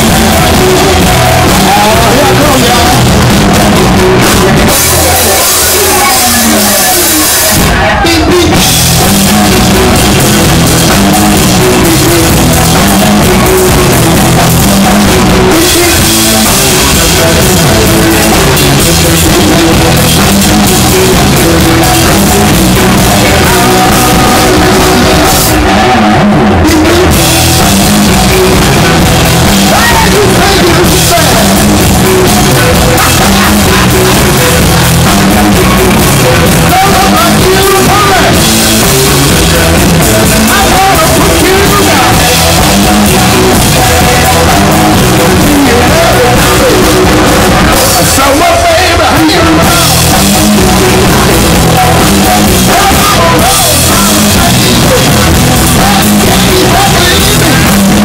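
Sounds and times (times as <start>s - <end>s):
drum kit with cymbals: 0.0s - 58.0s
electric guitar: 0.0s - 58.0s
man singing: 0.0s - 58.0s.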